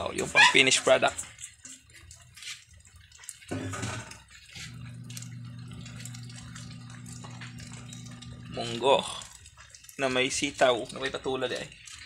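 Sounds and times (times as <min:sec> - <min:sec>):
ladle stirring soup in a wok: 0:00.0 - 0:12.0
liquid sloshing: 0:00.0 - 0:12.0
wood fire crackling: 0:00.0 - 0:12.0.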